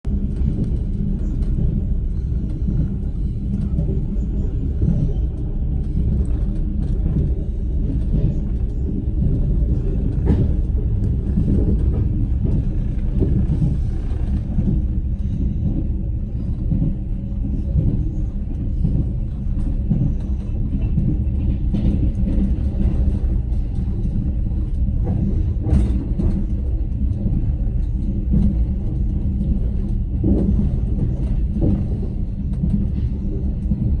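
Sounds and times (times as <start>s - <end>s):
train wheels rumbling on rails: 0.1s - 34.0s.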